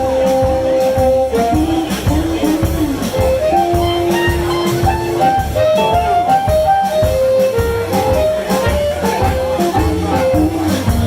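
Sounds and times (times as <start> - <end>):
bass: 0.0 - 11.0
drums: 0.0 - 11.0
lead instrument solo: 0.0 - 11.0.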